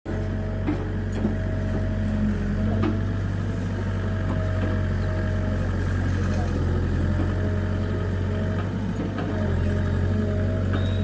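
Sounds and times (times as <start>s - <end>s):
excavator diesel engine running: 0.1s - 11.0s.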